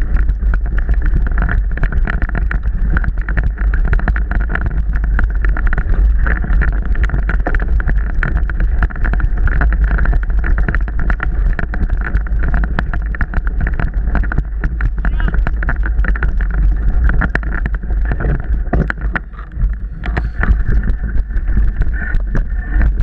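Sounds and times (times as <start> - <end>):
bike knocking and rattling: 0.0 - 23.0
wind rumble on microphone: 0.0 - 23.0.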